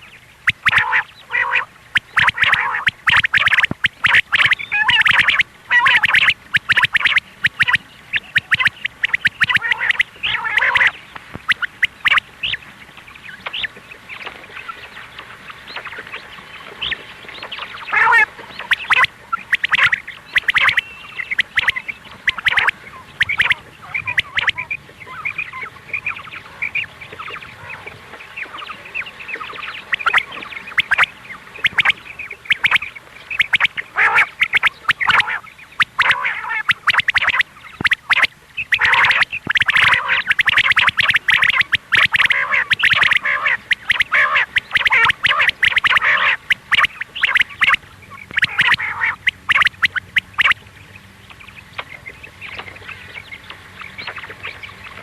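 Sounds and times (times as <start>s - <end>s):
quail chattering calls: 0.0s - 12.6s, 16.8s - 50.6s.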